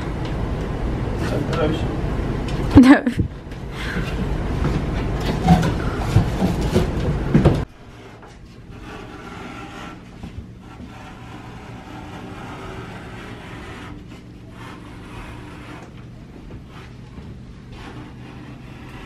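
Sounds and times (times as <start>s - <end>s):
steady hum: 0.0s - 19.0s
board handling rumble: 2.4s - 19.0s.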